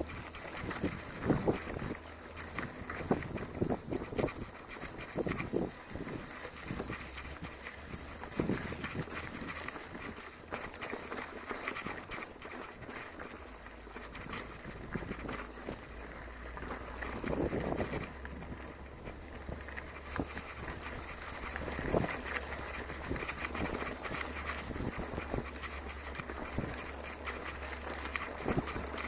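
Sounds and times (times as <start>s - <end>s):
bicycle rattling over rough trail: 0.0s - 29.0s.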